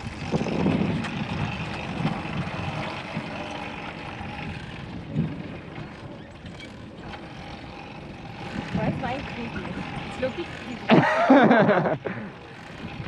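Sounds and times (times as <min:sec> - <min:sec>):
wind on microphone: 0:00.0 - 0:11.9
bicycle rolling noise: 0:00.0 - 0:13.0.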